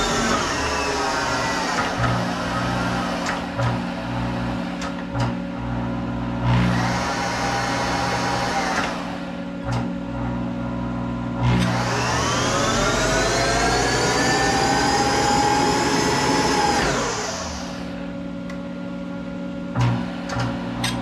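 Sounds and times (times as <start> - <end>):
lathe motor and gearing whining: 0.0 - 21.0
steady hum: 0.0 - 21.0.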